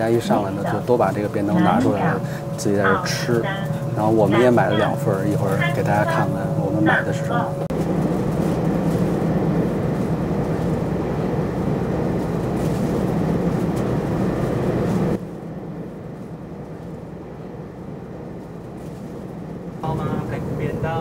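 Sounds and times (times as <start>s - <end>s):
train carriage rumble and hum: 0.0s - 21.0s.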